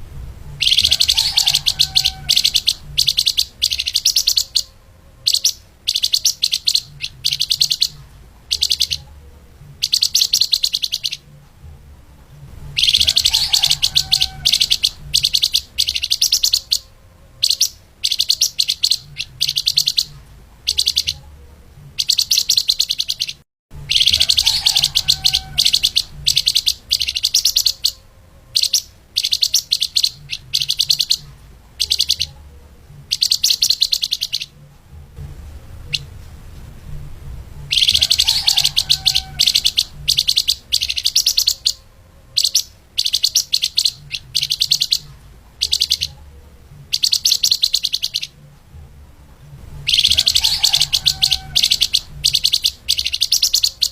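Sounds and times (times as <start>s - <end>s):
songbird high chirps: 0.4s - 11.4s, 12.6s - 34.6s, 37.7s - 48.4s, 49.8s - 53.9s.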